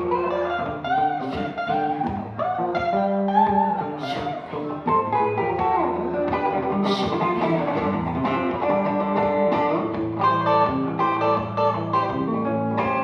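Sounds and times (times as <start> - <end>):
guitar picked notes: 0.0 - 13.0.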